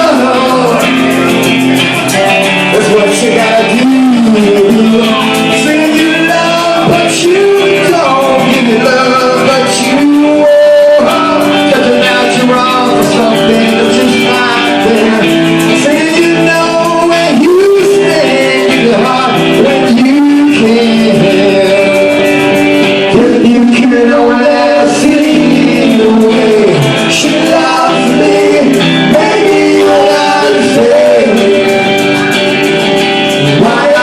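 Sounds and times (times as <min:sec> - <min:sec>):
rock band playing: 0:00.0 - 0:34.0
wavering melodic lead: 0:00.0 - 0:34.0.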